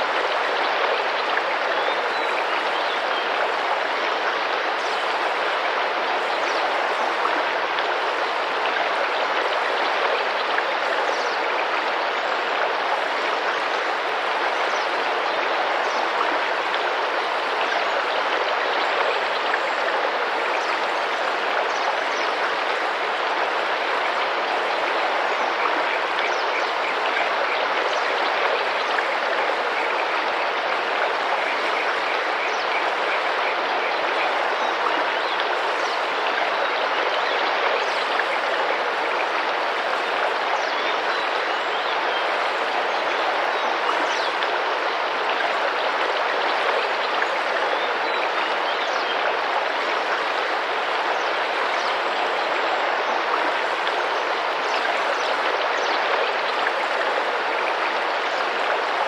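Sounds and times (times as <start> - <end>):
river water rushing and splashing: 0.0 - 59.0.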